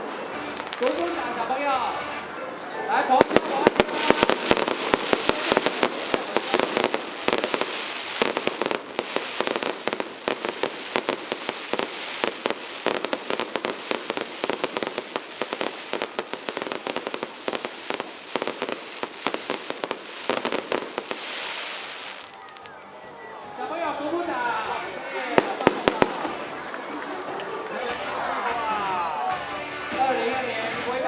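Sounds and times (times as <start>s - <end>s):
fireworks bangs and crackles: 0.0s - 22.9s, 24.4s - 31.0s.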